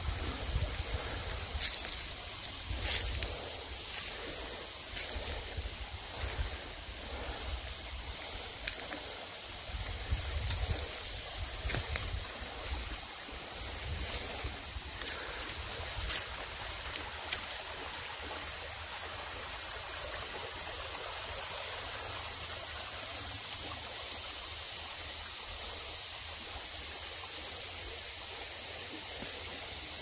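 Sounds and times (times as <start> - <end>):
stream flowing over rocks: 0.0 - 30.0.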